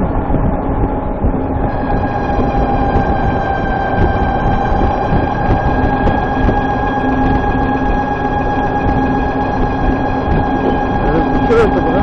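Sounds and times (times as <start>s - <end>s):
high-pitched transmission whine: 0.0s - 12.0s
motorcycle riding: 0.0s - 12.0s
road and wind noise: 0.0s - 12.0s.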